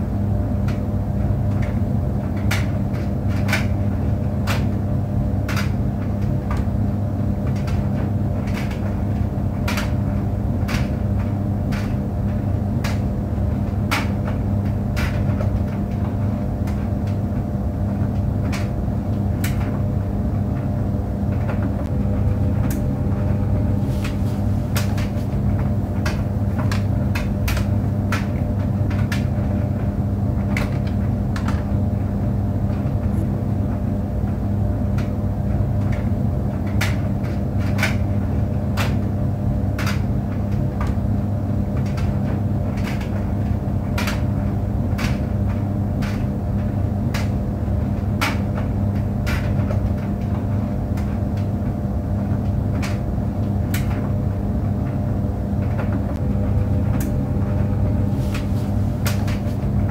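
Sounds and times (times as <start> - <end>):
clothes dryer humming: 0.0 - 59.9
load knocking in dryer drum: 0.6 - 59.9.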